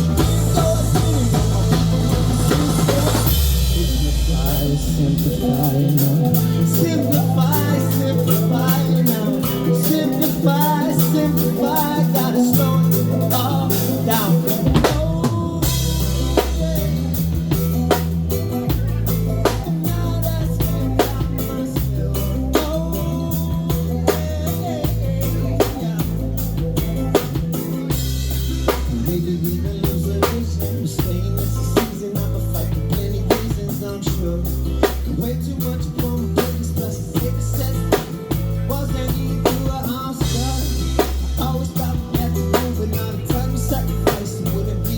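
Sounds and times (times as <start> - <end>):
bass line: 0.0 - 44.9
drum kit beat: 0.0 - 44.9
wavering melodic lead line: 0.0 - 44.9.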